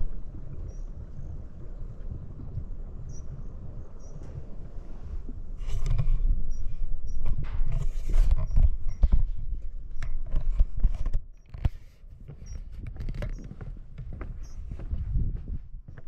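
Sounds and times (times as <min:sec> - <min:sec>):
footsteps on wooden boardwalk: 0:00.0 - 0:16.0
wind buffeting microphone: 0:00.0 - 0:16.0.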